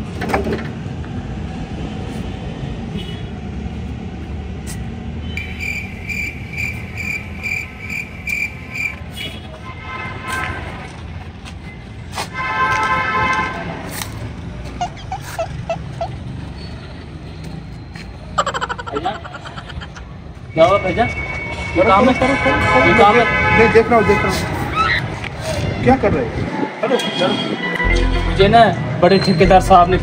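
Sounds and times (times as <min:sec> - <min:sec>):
low traffic rumble: 0:00.0 - 0:30.0.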